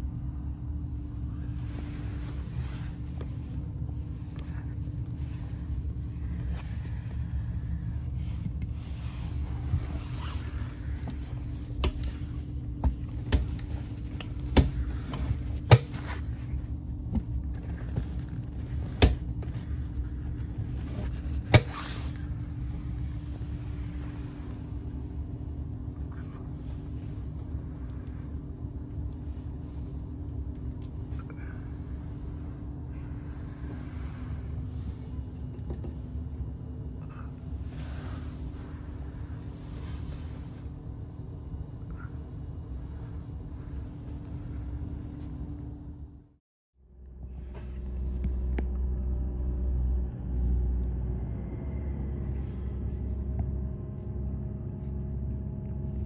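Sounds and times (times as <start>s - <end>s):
train cabin rumble: 0.0s - 46.1s
diesel engine drone: 0.0s - 56.0s.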